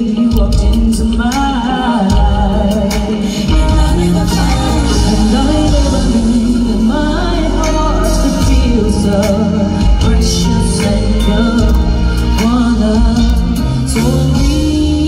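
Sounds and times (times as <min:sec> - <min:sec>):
live band music: 0:00.0 - 0:15.0
woman singing into a microphone: 0:00.0 - 0:15.0
backing singers: 0:02.2 - 0:15.0.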